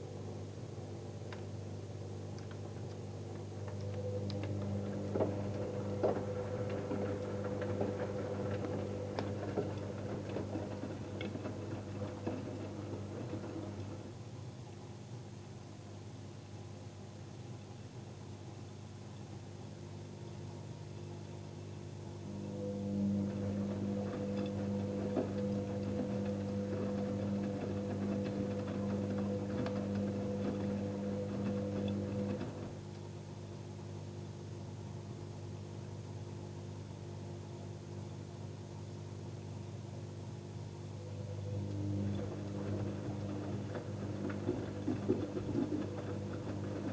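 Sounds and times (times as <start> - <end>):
washing machine motor hum: 0.0 - 14.7, 21.4 - 35.4, 36.0 - 46.9.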